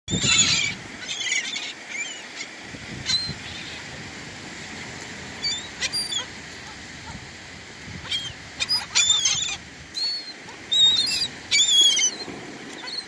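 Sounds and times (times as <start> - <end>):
gulls squawking: 0.1 - 3.9, 5.4 - 7.2, 8.0 - 13.0.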